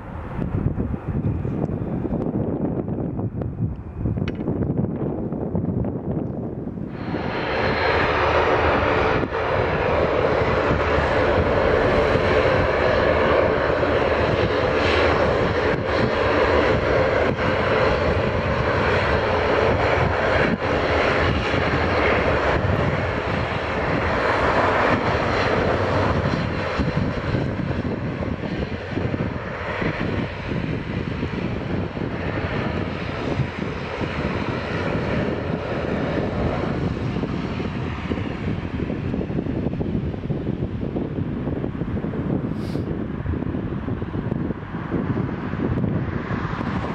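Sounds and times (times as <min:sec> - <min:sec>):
turboprop aircraft engines droning: 0:00.0 - 0:46.9.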